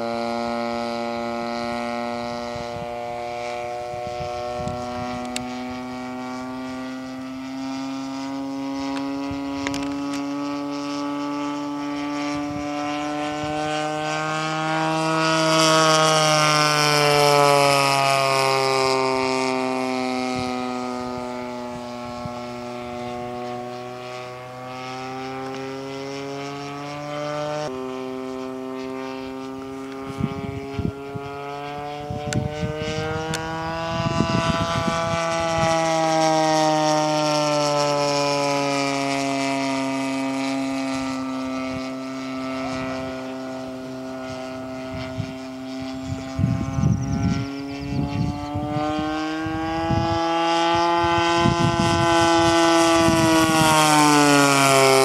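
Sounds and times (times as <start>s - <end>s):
model plane engine overhead: 0.0s - 55.0s
wind buffeting microphone: 0.2s - 26.7s, 27.3s - 55.0s.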